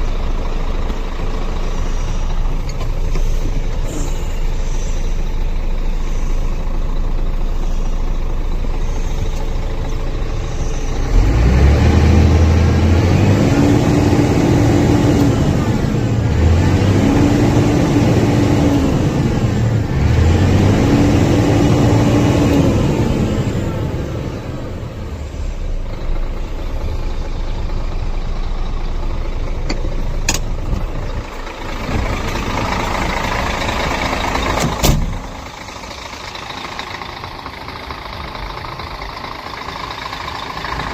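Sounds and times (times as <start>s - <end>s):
truck diesel engine revving: 0.0s - 40.9s.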